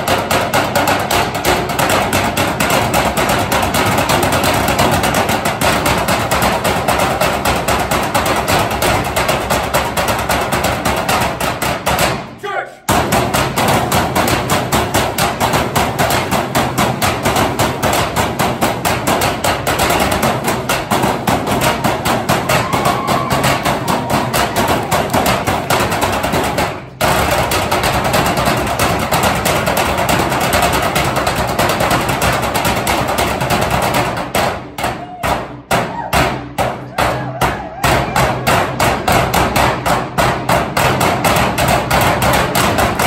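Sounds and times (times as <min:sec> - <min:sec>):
drumsticks hitting metal trash cans: 0:00.0 - 0:43.0.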